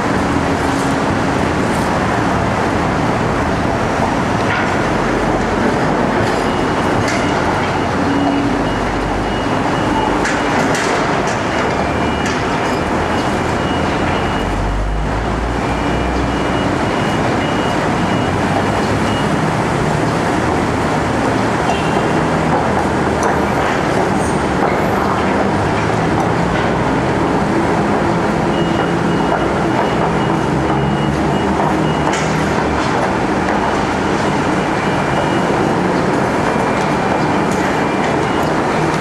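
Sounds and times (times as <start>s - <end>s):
heavy construction machinery rumbling: 0.0s - 39.0s.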